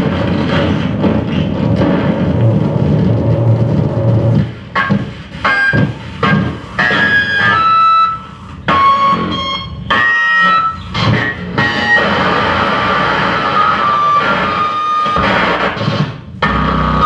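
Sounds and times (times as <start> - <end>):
dense distorted electronic noise: 0.0 - 17.0.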